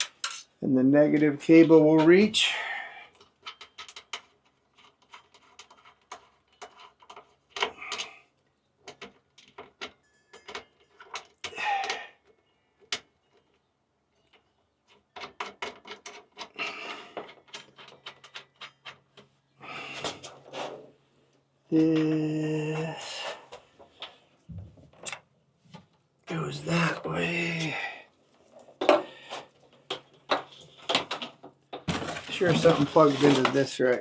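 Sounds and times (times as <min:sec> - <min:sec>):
rustling and scraping: 0:03.2 - 0:08.2, 0:08.8 - 0:34.0.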